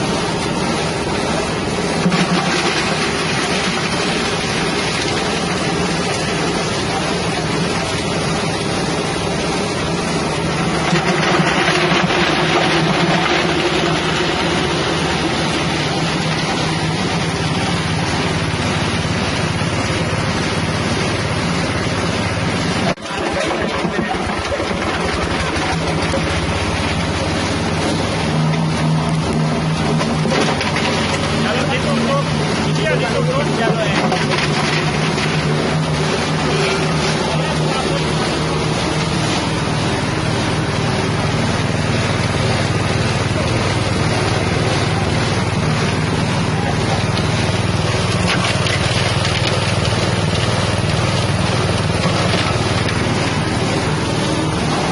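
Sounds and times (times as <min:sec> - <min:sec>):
engine-driven grinding machine running: 0:00.0 - 0:54.9.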